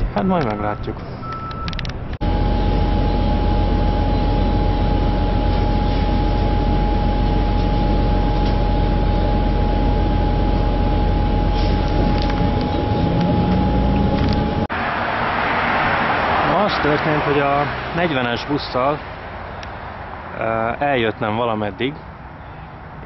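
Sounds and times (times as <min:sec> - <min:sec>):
constant whine: 0:00.0 - 0:21.0
bus engine and road rumble: 0:00.0 - 0:23.0.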